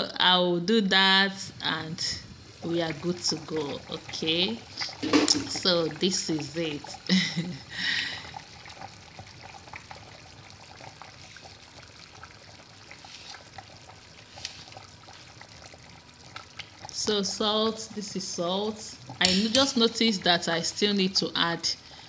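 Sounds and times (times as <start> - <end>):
broth boiling and bubbling: 0.0 - 22.0.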